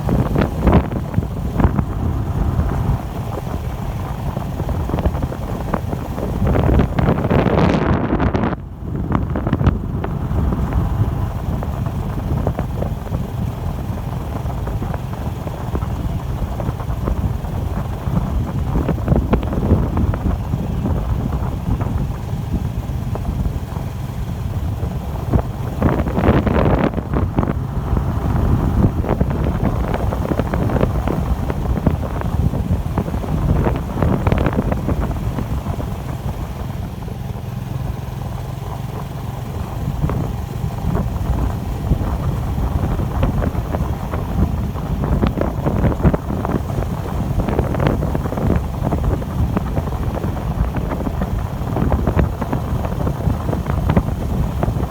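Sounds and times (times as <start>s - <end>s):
bicycle rattles: 0.0s - 54.9s
road and tyre rumble: 0.0s - 54.9s
wind buffeting microphone: 0.0s - 54.9s.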